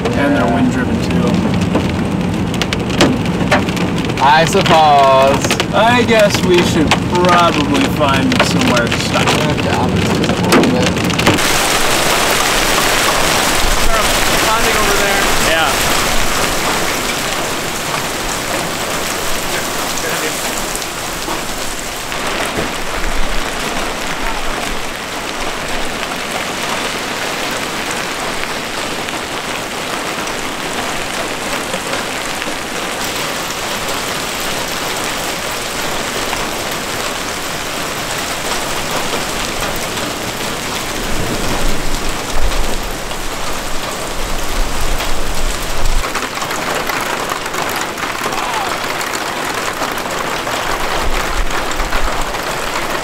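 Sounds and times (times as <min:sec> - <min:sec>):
hail and rain hitting pavement: 0:00.0 - 0:53.0
low rumbles: 0:00.0 - 0:53.0.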